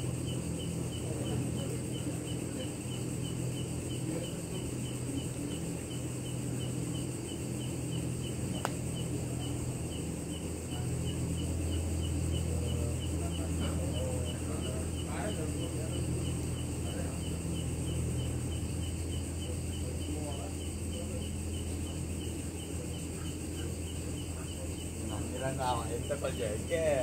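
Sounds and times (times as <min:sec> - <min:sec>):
insects chirping shrilly: 0:00.0 - 0:27.0
steady low hum: 0:00.0 - 0:27.0.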